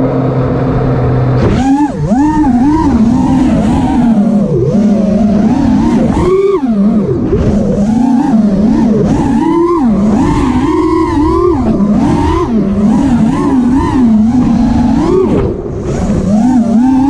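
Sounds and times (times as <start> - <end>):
drone motors buzzing whine: 0.0 - 17.0.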